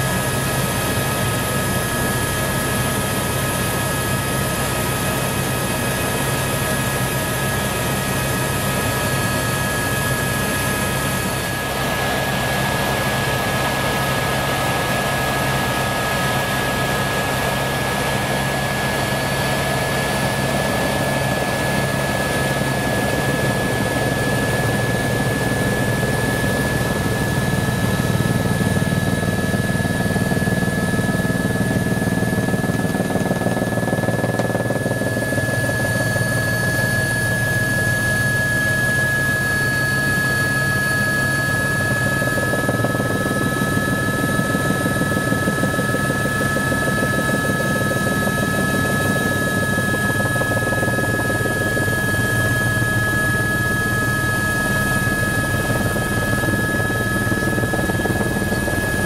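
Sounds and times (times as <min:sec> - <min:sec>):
helicopter engine and rotor noise: 0:00.0 - 0:59.0.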